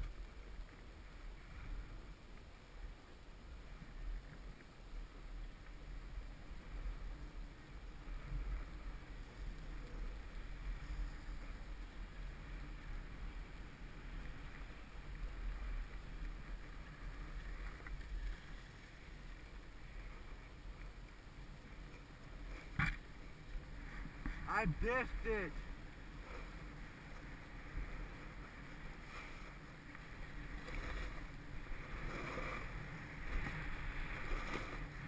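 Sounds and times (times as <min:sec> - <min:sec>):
snowboard scraping over snow: 0:03.5 - 0:35.0.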